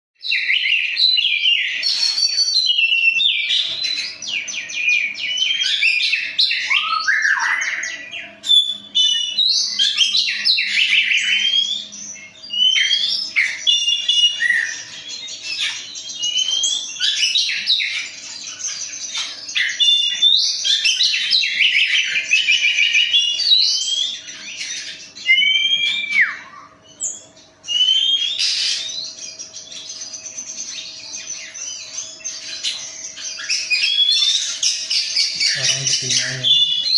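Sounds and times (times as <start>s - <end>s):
songbirds singing: 0.2s - 36.9s.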